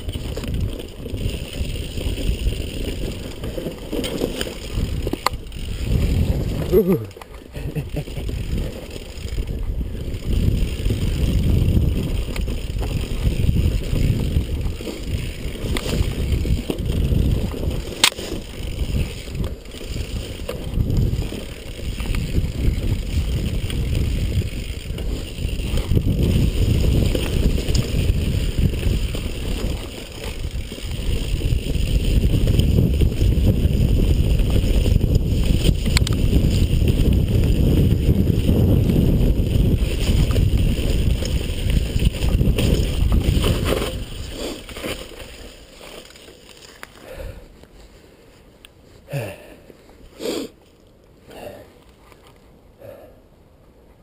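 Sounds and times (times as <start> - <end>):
wind buffeting microphone: 0.0 - 45.4
mountain bike rumble and rattle: 0.0 - 53.2.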